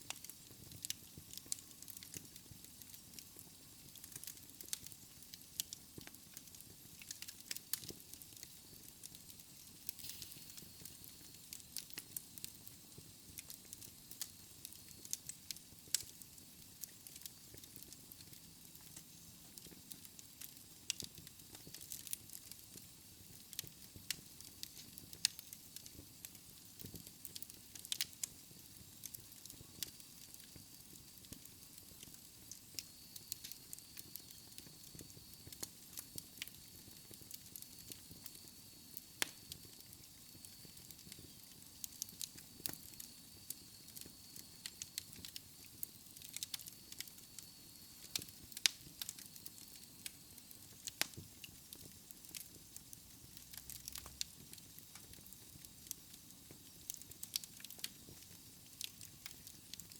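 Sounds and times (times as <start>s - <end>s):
low rumble of flames: 0.0s - 59.8s
wood fire crackling: 0.0s - 59.9s.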